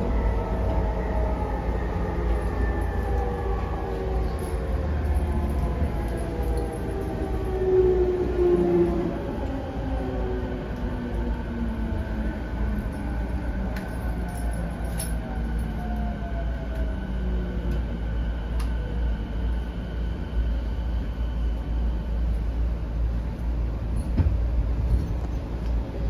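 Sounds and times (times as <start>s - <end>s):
train motor whine: 0.0s - 26.0s
train rumble: 0.0s - 26.0s.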